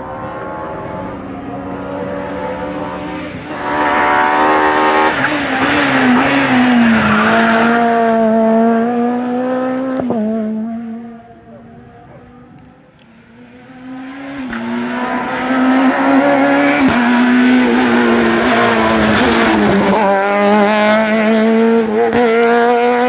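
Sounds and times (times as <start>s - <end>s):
rally car passing at full throttle: 0.0s - 23.0s.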